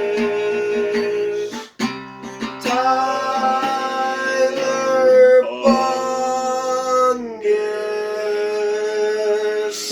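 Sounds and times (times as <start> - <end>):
person singing long notes: 0.0 - 1.8, 2.5 - 9.9
acoustic guitar: 0.0 - 9.9.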